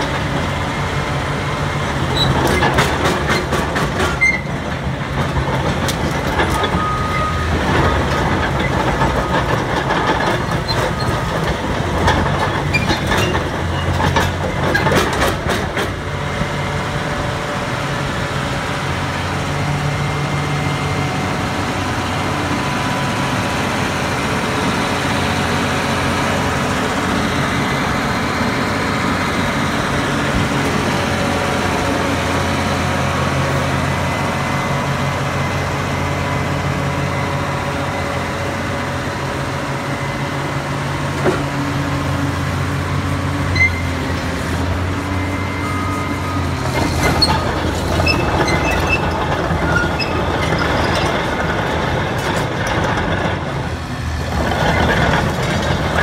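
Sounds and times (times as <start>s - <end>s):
steel tracks rattling: 0.0s - 19.6s, 21.3s - 56.0s
bulldozer diesel engine running: 0.0s - 56.0s.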